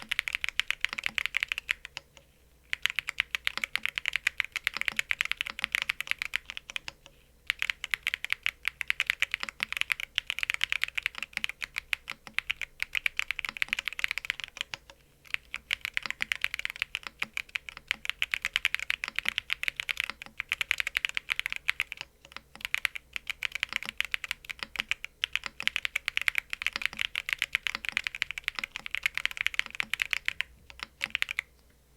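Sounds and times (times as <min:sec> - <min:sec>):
typing on mechanical keyboard: 0:00.0 - 0:02.1, 0:02.7 - 0:31.5.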